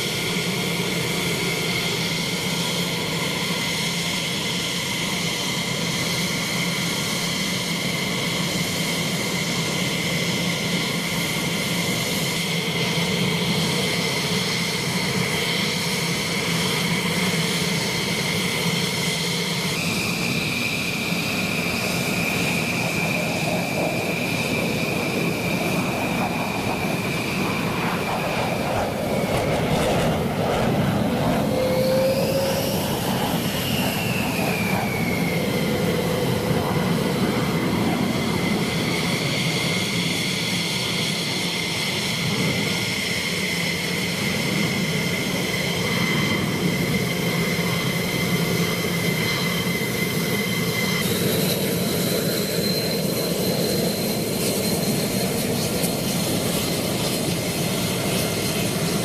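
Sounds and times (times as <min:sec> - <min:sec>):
jet engine whining at idle: 0:00.0 - 0:59.0.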